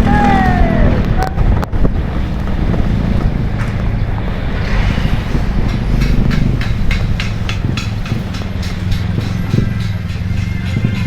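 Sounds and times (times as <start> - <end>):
wind on microphone: 0.0 - 10.0
bus engine running: 0.0 - 11.0
road noise: 0.0 - 11.0.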